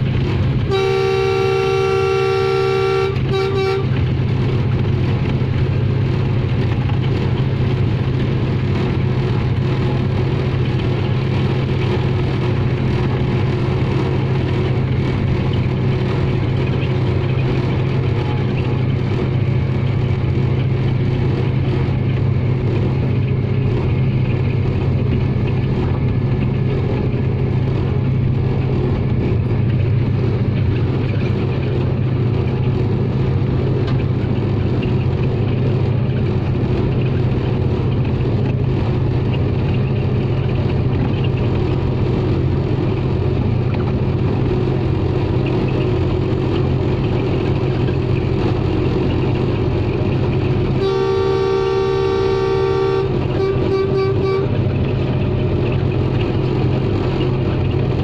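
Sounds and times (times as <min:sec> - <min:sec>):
locomotive engine drone: 0:00.0 - 0:58.0
wheels on rails: 0:00.0 - 0:58.0.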